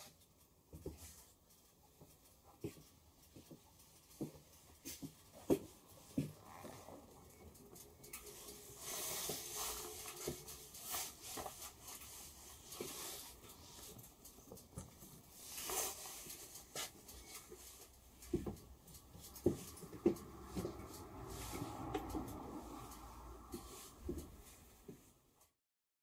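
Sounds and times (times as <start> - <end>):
gear being handled: 0.9 - 24.5
fabric rustling: 0.9 - 25.2.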